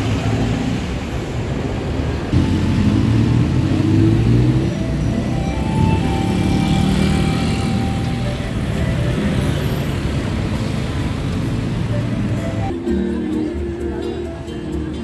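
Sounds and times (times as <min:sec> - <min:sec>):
heavy road traffic rumble: 0:00.0 - 0:15.0.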